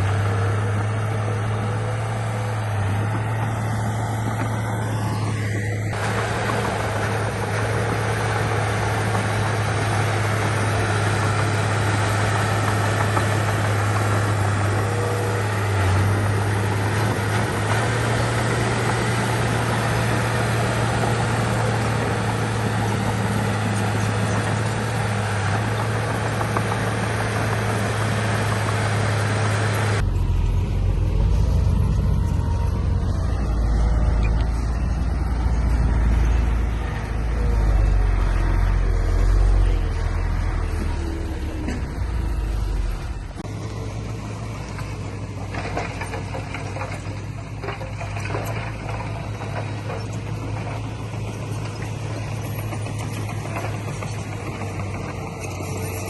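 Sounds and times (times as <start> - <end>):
diesel earthmoving machinery running: 0.0 - 56.0.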